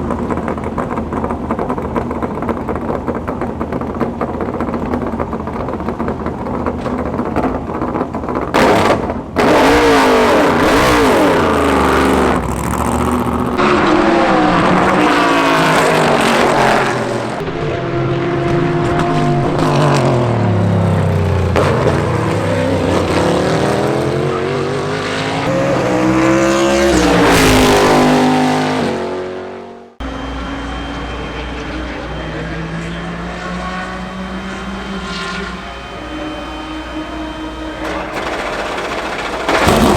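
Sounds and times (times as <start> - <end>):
race cars passing by: 0.0 - 38.2.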